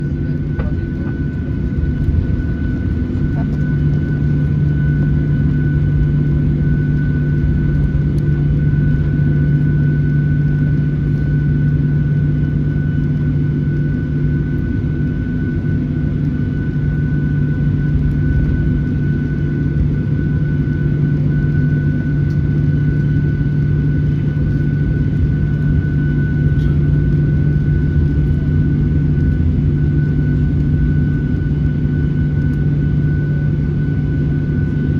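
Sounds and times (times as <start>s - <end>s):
jet engine hum in cabin: 0.0s - 34.9s.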